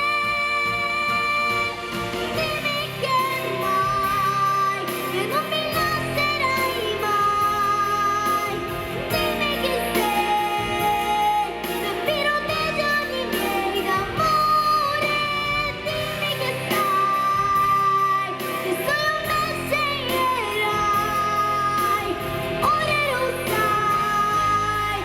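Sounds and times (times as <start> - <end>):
pop instrumental backing: 0.0 - 25.0.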